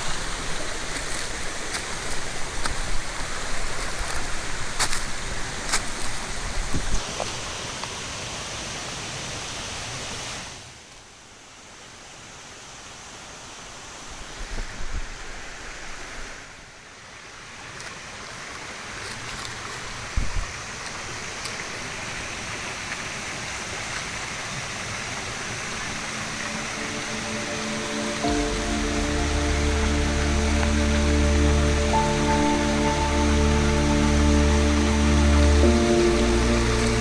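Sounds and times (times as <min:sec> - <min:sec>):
waterfall and stream rushing: 0:00.0 - 0:37.0.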